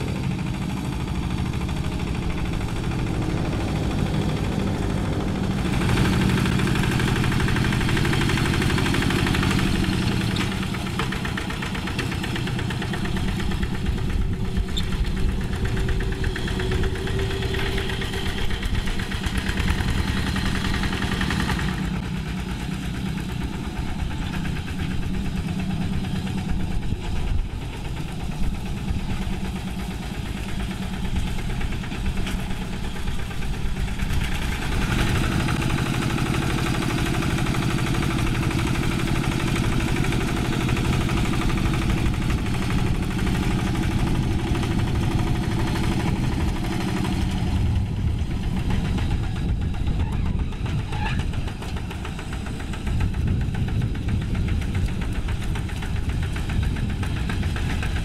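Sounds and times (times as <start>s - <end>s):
diesel engine chugging under load: 0.0s - 58.0s.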